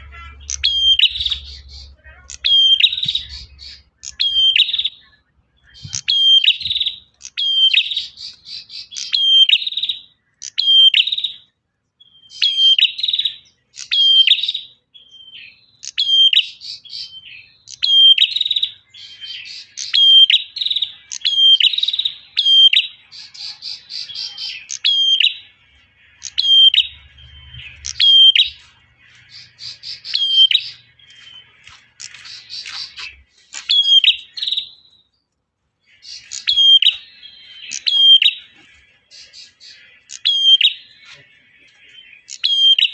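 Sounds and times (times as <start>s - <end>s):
bird singing whistles and trills: 0.0s - 35.2s, 35.8s - 42.9s.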